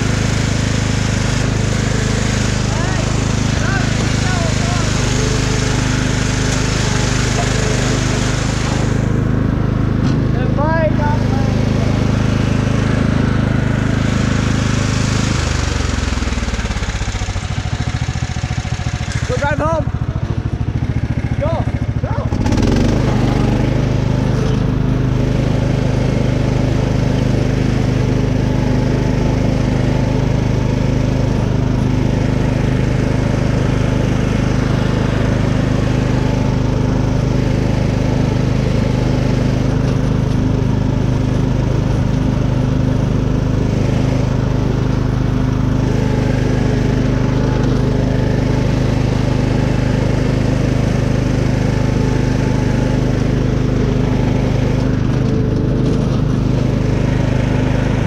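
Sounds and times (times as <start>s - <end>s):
riding lawn mower engine running: 0.0s - 58.0s.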